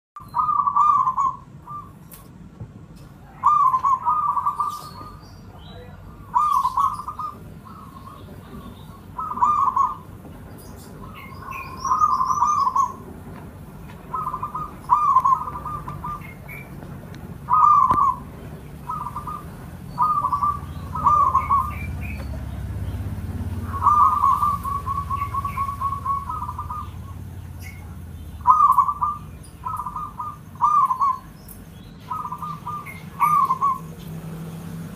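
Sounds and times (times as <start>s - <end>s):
dove cooing: 0.2s - 2.0s, 3.2s - 5.2s, 5.8s - 13.2s, 13.8s - 31.4s, 32.0s - 34.5s
small birds chirping: 0.2s - 34.9s.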